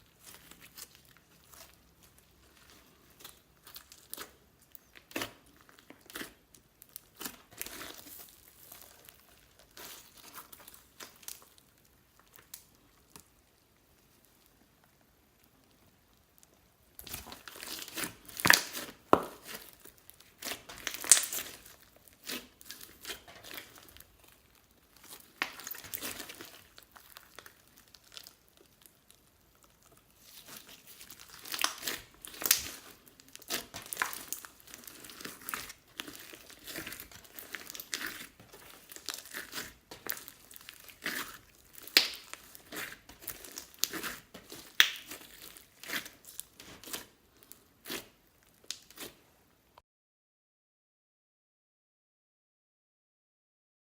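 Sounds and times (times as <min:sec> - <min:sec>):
slime crackling and popping: 0:00.1 - 0:49.2.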